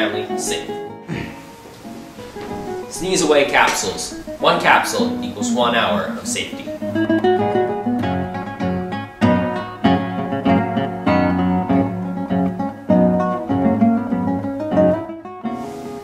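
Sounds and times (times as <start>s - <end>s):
strummed guitar chords: 0.0s - 16.0s.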